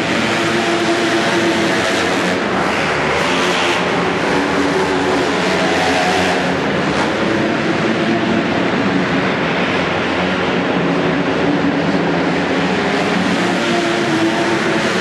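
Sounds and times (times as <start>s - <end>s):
racing motorcycle engines revving: 0.0s - 15.0s.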